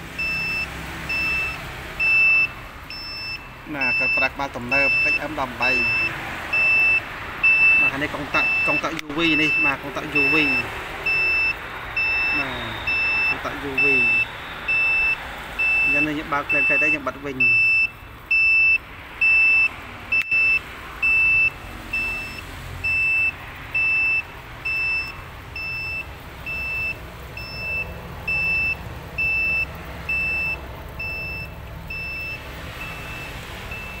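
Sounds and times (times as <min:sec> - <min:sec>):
electronic controller beeping: 0:00.2 - 0:34.0.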